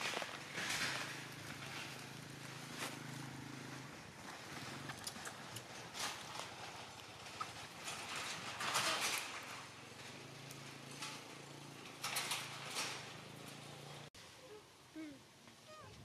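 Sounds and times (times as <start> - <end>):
dry leaves and twigs crackling: 0.0 - 13.0.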